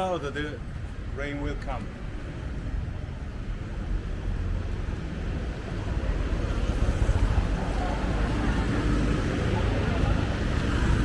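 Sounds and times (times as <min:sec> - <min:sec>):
passing vehicles rumble: 0:00.0 - 0:11.0.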